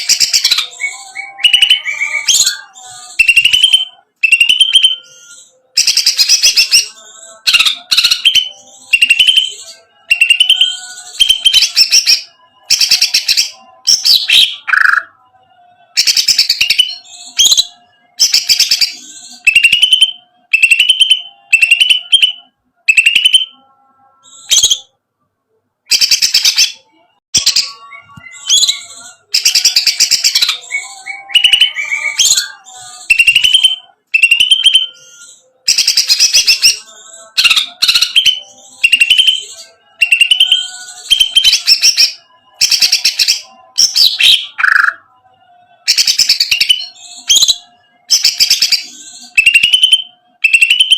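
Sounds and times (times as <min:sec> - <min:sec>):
bird singing rattling chatter: 0:00.0 - 0:15.2, 0:16.0 - 0:23.6, 0:25.9 - 0:50.9.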